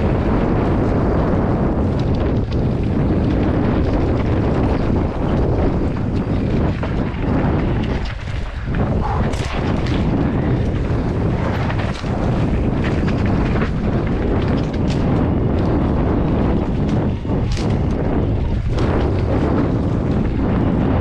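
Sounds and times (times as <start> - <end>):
mountain bike rattling and knocking: 0.0 - 21.0
wind buffeting microphone: 0.0 - 21.0.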